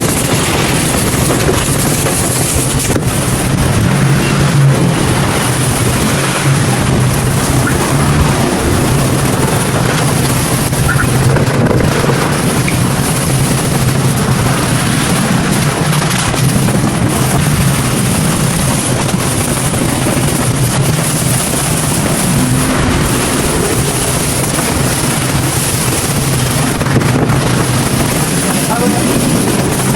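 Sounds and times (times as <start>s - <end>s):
low motor hum: 2.9s - 29.9s.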